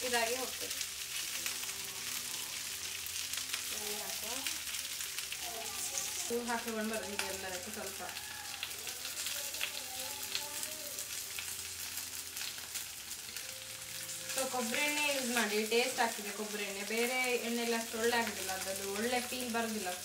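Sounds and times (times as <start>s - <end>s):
leaf rolls sizzling in oil: 0.0s - 20.0s.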